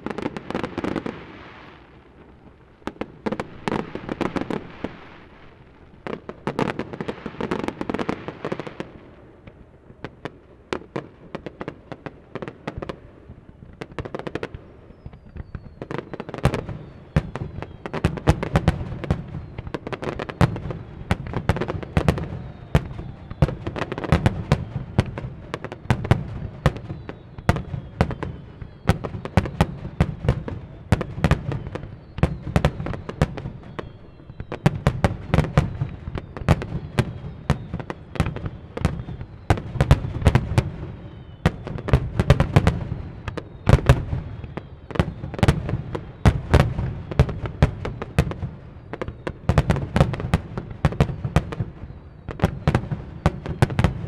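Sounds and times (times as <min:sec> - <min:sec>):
fireworks bursts and bangs: 0:00.0 - 0:54.0
fireworks falling whistles: 0:00.0 - 0:54.0.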